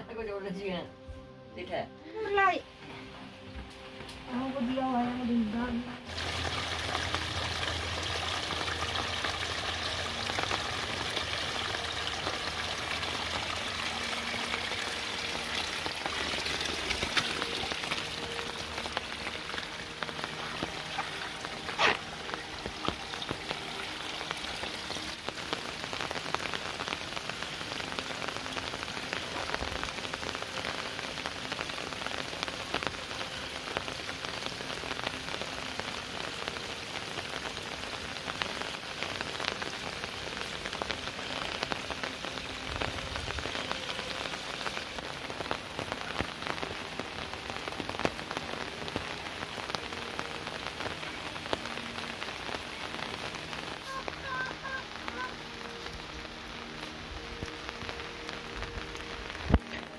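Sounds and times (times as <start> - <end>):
rain pattering on leaves: 3.6 - 59.9
stream splashing over rocks: 6.1 - 59.9.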